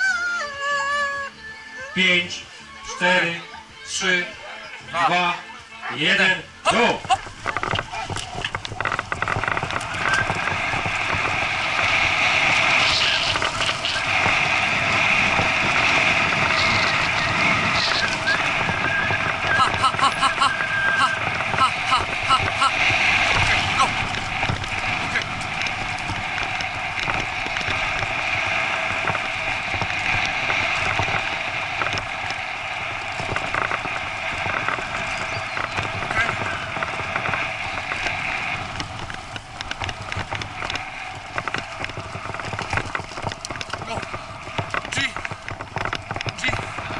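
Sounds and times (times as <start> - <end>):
bicycle tyres rattling on dirt: 6.0 - 46.9
wind on microphone: 7.0 - 46.9.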